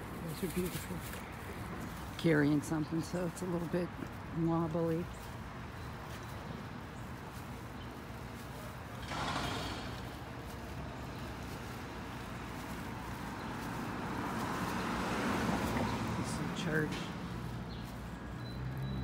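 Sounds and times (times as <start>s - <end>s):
street rumble: 0.0s - 19.0s.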